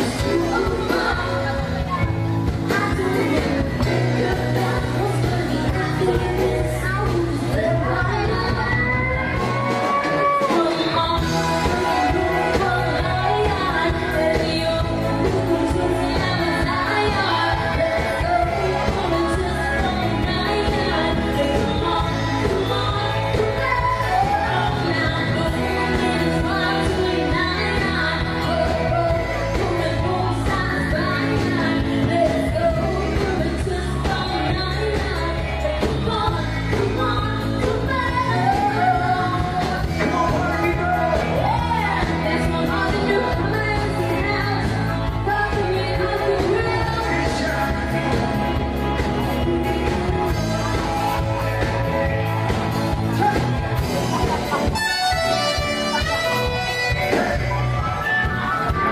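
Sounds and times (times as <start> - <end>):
person singing: 0.0 - 58.9
pop band playing: 0.0 - 58.9.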